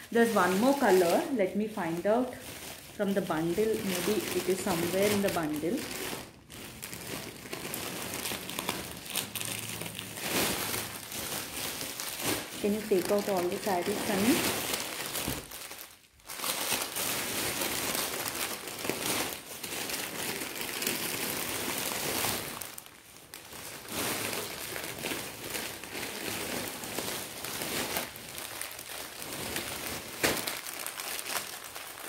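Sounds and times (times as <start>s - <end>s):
fabric rustling and crinkling: 0.0s - 32.0s.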